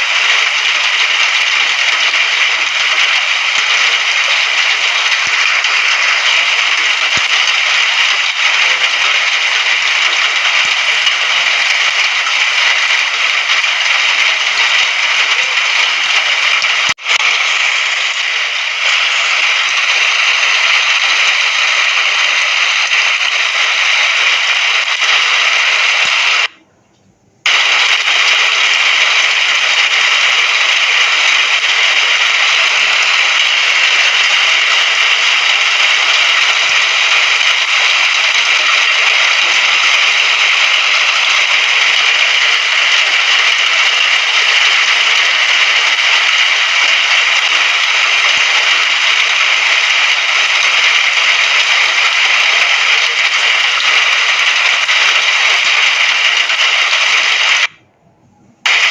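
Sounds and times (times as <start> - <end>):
rain falling: 0.0 - 26.6, 27.5 - 57.8, 58.7 - 58.9.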